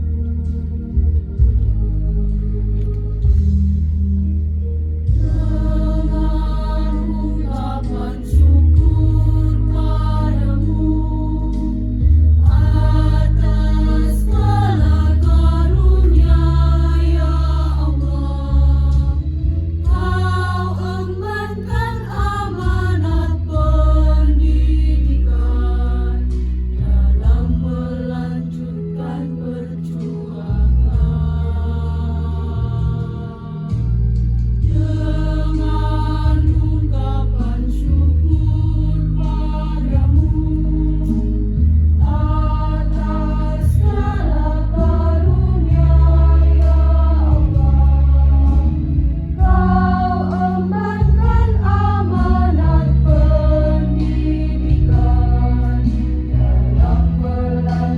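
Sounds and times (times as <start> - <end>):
choir singing held notes: 5.1 - 57.9.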